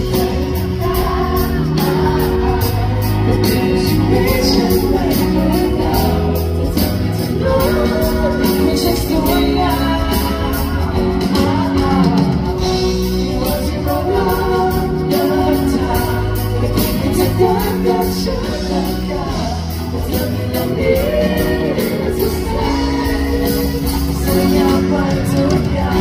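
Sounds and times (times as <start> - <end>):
guitar: 0.0 - 26.0
pop-rock song with singing: 0.0 - 26.0
steady drum beat: 0.0 - 26.0.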